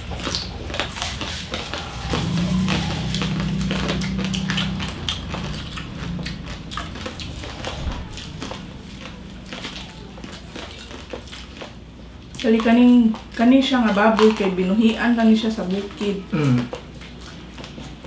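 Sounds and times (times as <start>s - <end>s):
crunching crispy skin: 0.0s - 15.0s
low steady hum: 0.0s - 18.0s.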